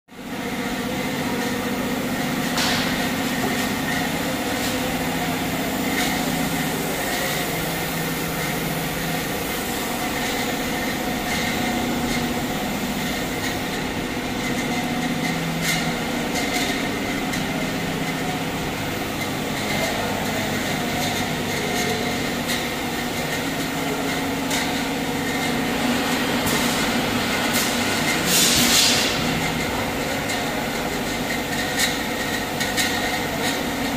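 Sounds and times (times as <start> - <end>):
machinery motor hum and whine: 0.1 - 33.9.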